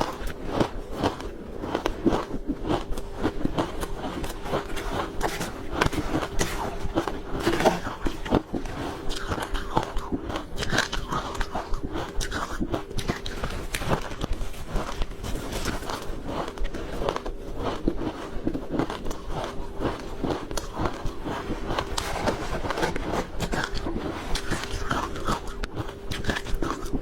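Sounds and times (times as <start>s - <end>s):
person chewing crunchy ice: 0.0s - 27.0s.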